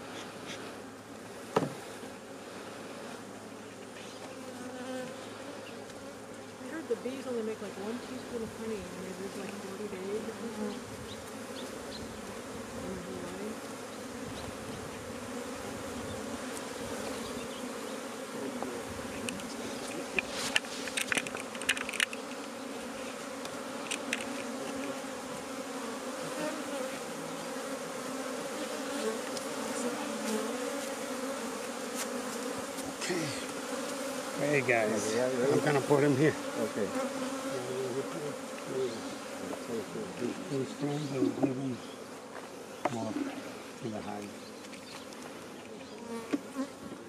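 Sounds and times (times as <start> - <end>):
honeybees buzzing: 0.0 - 47.0.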